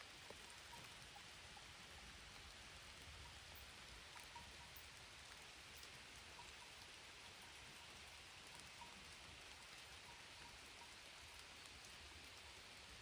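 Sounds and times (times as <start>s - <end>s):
light rain on plants: 0.0s - 13.0s
raindrop ticks: 0.0s - 13.0s.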